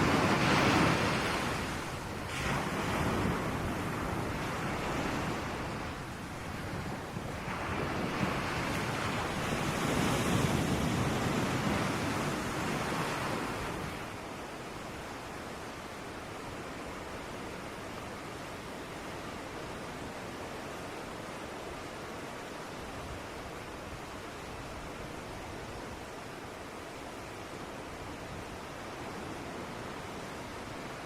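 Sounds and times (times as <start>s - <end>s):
ocean waves washing: 0.0s - 31.0s.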